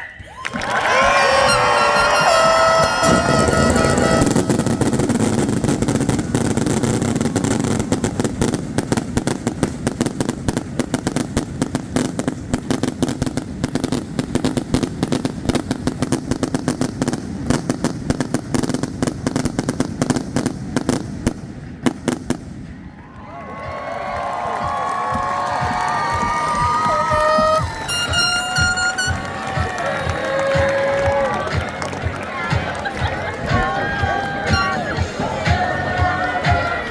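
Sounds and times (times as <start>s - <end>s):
fireworks crackling: 0.7s - 36.9s.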